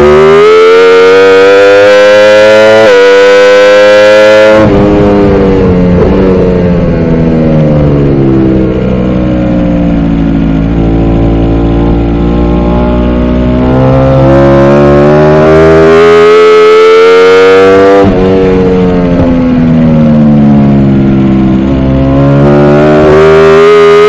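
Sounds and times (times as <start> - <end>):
motorcycle engine at high revs: 0.0 - 24.0.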